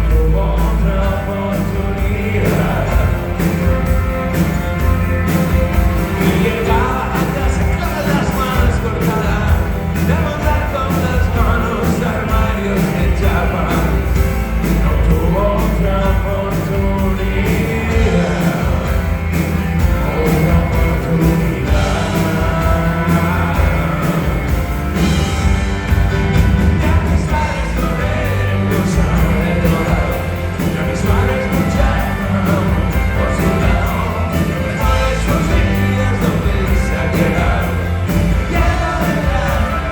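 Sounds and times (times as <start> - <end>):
rock band with singer: 0.0 - 39.9.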